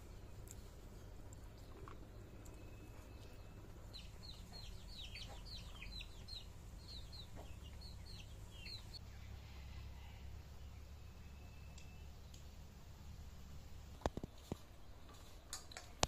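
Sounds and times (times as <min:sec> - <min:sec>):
steady low rumble: 0:00.0 - 0:15.0
birds chirping: 0:00.0 - 0:16.0.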